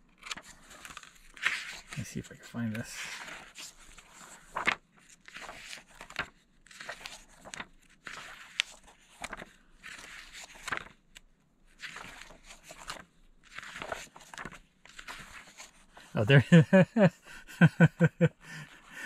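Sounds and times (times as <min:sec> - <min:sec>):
pages turning: 0:00.1 - 0:16.1.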